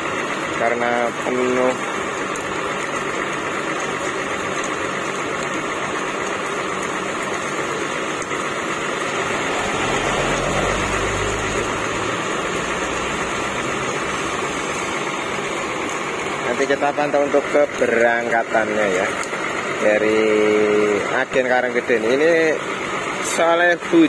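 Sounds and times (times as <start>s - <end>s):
diesel engine idling: 0.0s - 24.0s
rain hiss: 0.0s - 24.0s.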